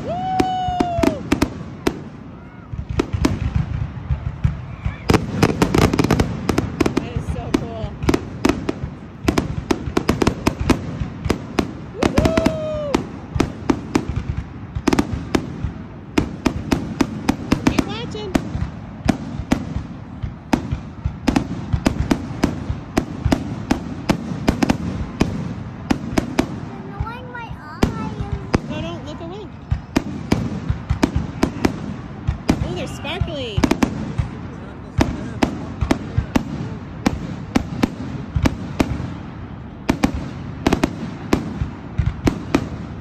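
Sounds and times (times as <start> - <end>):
fireworks bangs: 0.0 - 43.0
low background noise: 0.0 - 43.0.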